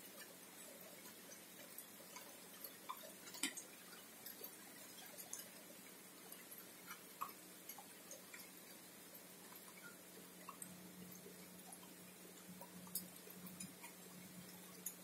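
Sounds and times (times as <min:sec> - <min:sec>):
water drops dripping on leaves: 0:00.1 - 0:15.0.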